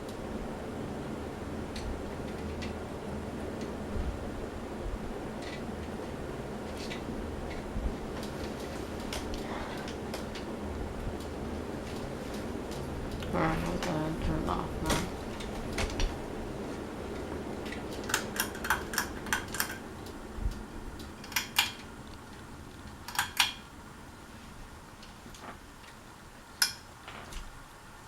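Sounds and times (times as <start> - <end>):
ceiling fan running: 0.0 - 28.0.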